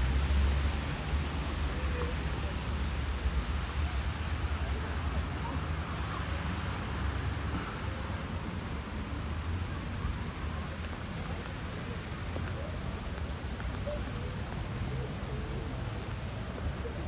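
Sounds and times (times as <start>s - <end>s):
rain on a street: 0.0s - 17.0s.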